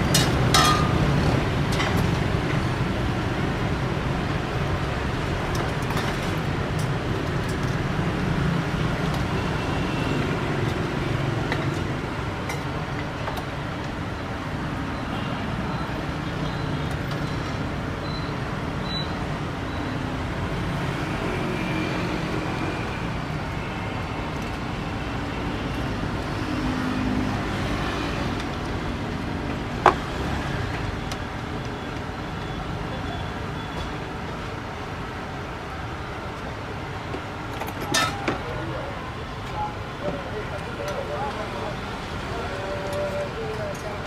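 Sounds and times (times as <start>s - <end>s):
city street traffic: 0.0s - 44.0s.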